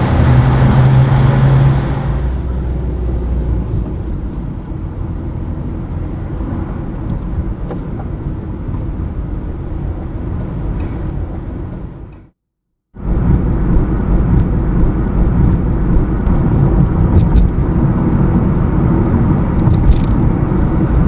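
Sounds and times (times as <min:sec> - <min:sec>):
car engine and tyre rumble: 0:00.0 - 0:12.3, 0:13.0 - 0:21.0.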